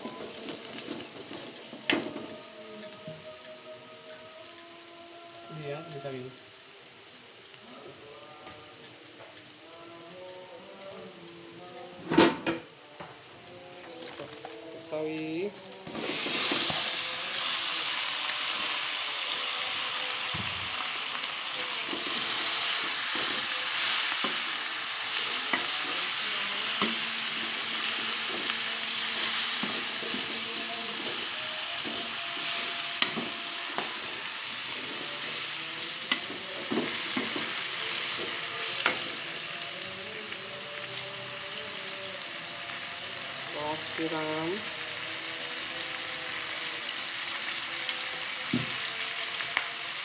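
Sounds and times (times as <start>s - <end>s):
greens sizzling in hot oil: 0.0s - 50.0s.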